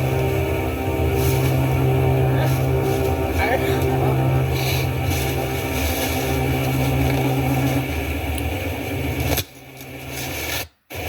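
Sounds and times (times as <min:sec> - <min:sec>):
vehicle engine droning: 0:00.0 - 0:10.6.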